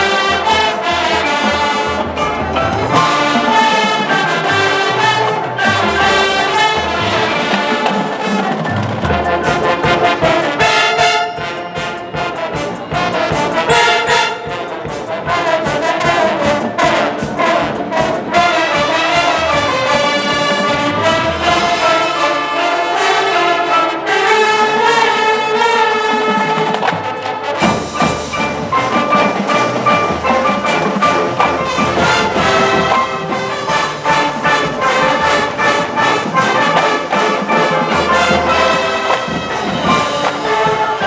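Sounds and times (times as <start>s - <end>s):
drums: 0.0s - 41.0s
marching band playing: 0.0s - 41.0s
trombones and trumpets melody: 0.0s - 41.0s.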